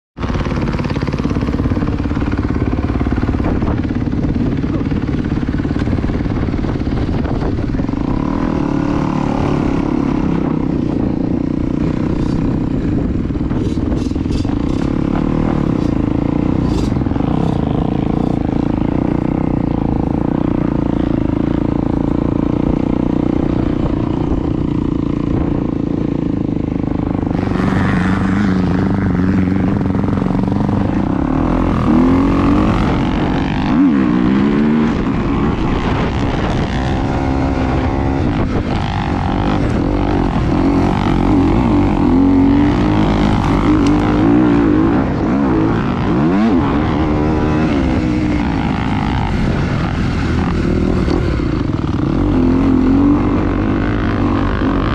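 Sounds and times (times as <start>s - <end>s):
engine revving: 0.2s - 54.9s
low wind rumble: 0.2s - 54.9s.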